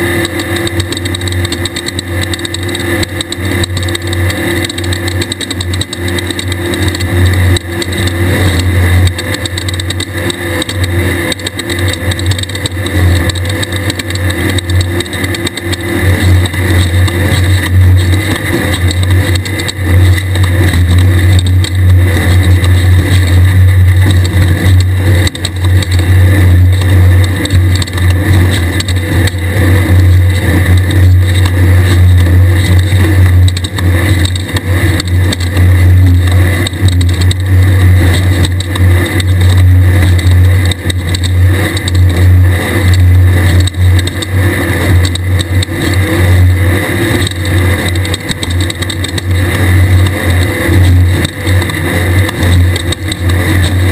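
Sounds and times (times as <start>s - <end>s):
buggy engine loud low drone: 0.0s - 53.9s.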